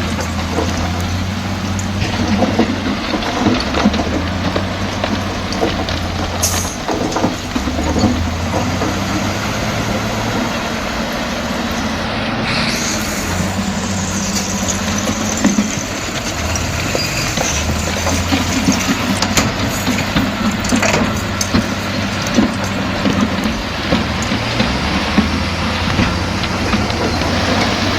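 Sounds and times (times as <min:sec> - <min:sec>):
bulldozer diesel engine running: 0:00.0 - 0:27.9
rock being pushed: 0:00.0 - 0:27.9
steel tracks clanking: 0:00.0 - 0:27.9.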